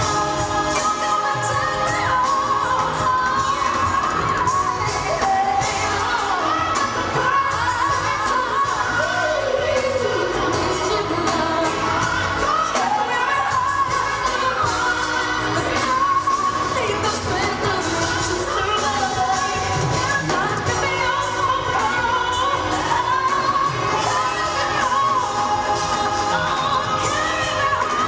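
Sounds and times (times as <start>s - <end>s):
band backing: 0.0s - 28.0s
woman singing lead: 0.0s - 28.0s.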